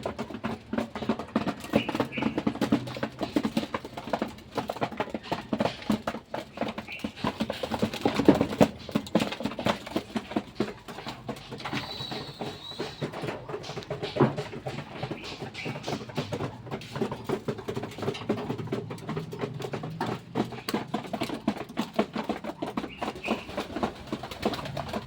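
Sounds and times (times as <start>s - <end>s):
pigeons pecking and scuffling: 0.0s - 25.0s.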